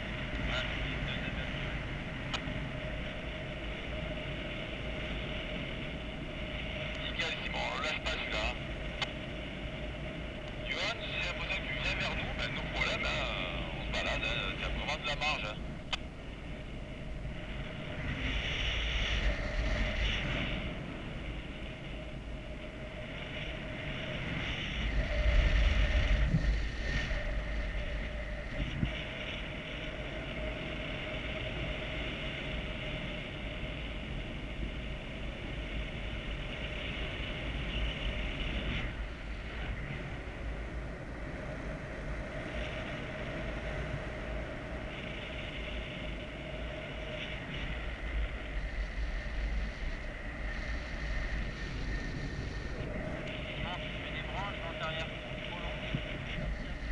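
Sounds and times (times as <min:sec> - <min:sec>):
faint steady hum: 0:00.0 - 0:56.9
wind buffeting microphone: 0:00.0 - 0:56.9.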